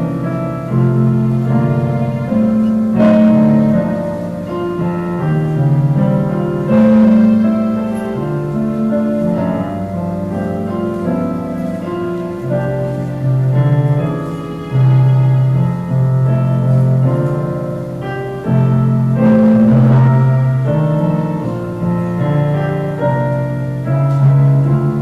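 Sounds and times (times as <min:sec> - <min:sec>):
keyboard playing slow chords: 0:00.0 - 0:25.0.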